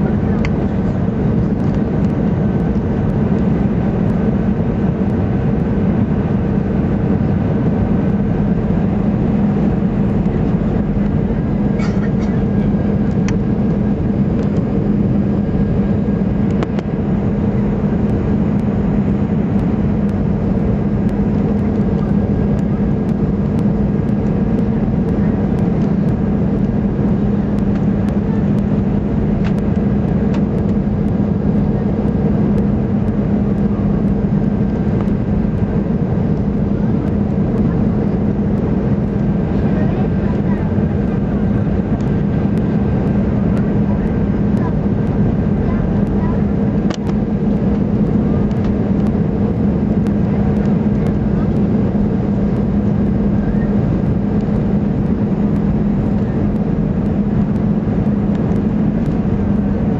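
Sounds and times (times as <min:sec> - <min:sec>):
airplane cabin drone: 0:00.0 - 0:59.9
rushing airflow: 0:00.0 - 0:59.9.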